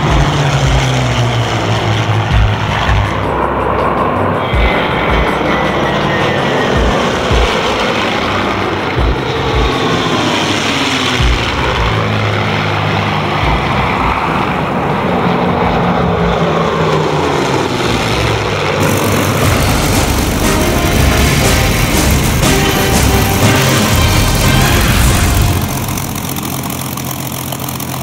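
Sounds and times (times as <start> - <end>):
propeller aircraft droning past: 0.0 - 28.0.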